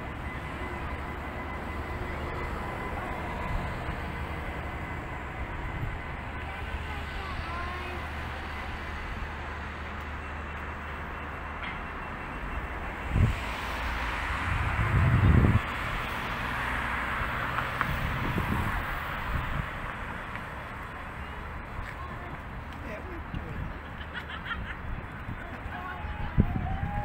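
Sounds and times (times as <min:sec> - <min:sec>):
low city rumble: 0:00.0 - 0:27.0.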